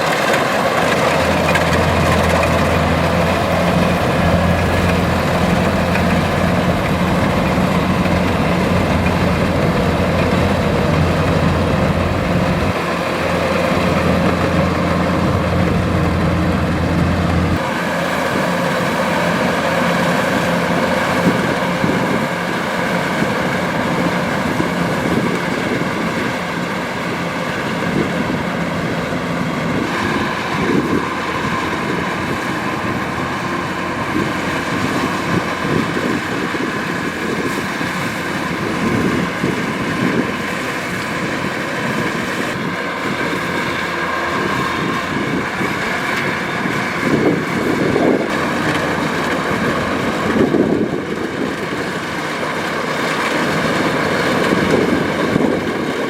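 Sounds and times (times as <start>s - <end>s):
combine harvester droning: 0.0s - 56.0s.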